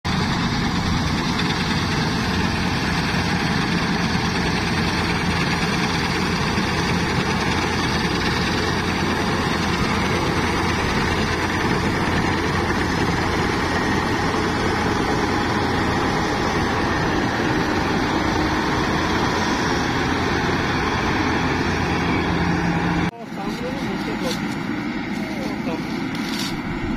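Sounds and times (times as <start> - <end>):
combine harvester engine drone: 0.0 - 26.9.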